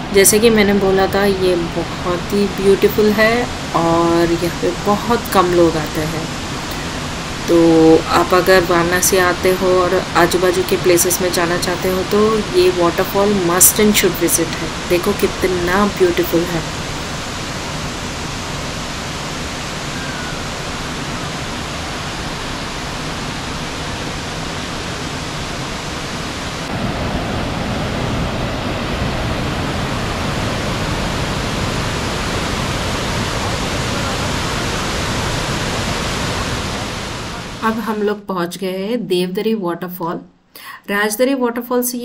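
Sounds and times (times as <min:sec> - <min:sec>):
waterfall rushing: 0:00.0 - 0:37.7.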